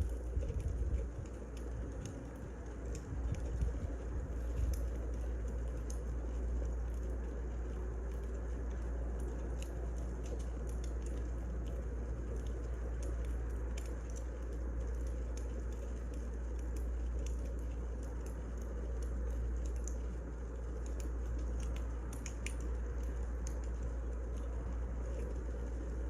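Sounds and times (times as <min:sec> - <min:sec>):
fire low rumble: 0:00.0 - 0:26.0
firewood crackles and pops: 0:00.0 - 0:26.0.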